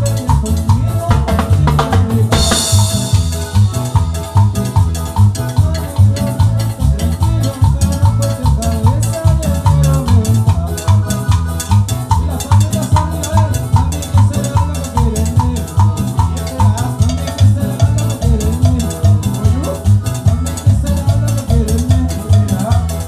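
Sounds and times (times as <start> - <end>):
electric bass: 0.0 - 23.0
live cumbia band playing: 0.0 - 23.0.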